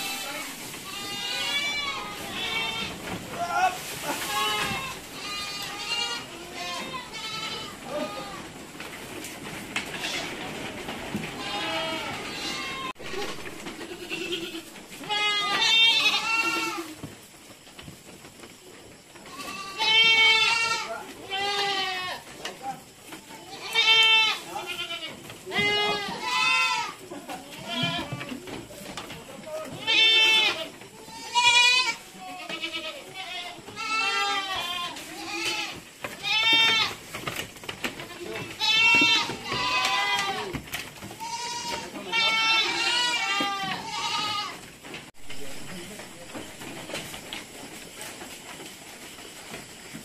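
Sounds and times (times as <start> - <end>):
goats bleating loudly: 0.0 - 8.8, 9.8 - 17.1, 19.2 - 22.4, 23.2 - 44.9.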